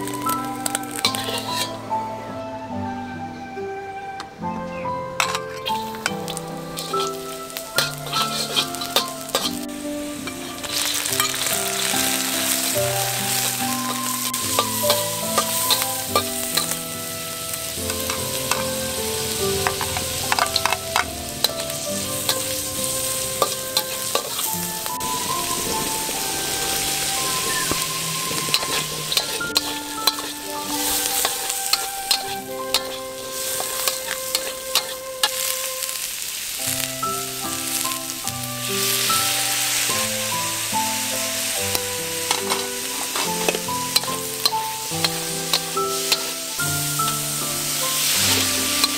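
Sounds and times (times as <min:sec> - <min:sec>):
food sizzling in a wok: 0:00.0 - 0:02.2, 0:05.2 - 0:48.9
soft background music: 0:00.0 - 0:48.9
metal spatula scraping a pan: 0:00.1 - 0:01.8, 0:05.2 - 0:35.4, 0:40.8 - 0:48.9.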